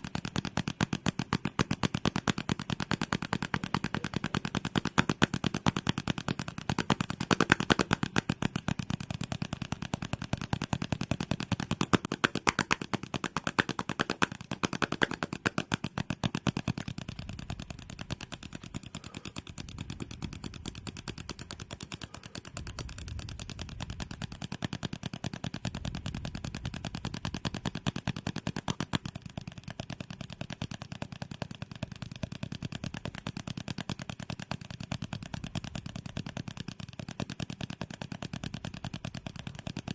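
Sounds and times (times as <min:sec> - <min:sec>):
rapid clicks and taps: 0:00.0 - 0:39.9.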